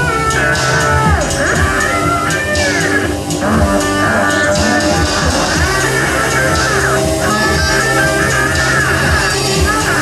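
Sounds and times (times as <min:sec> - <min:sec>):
lead guitar bending notes: 0:00.0 - 0:10.0
rock band playing: 0:00.0 - 0:10.0.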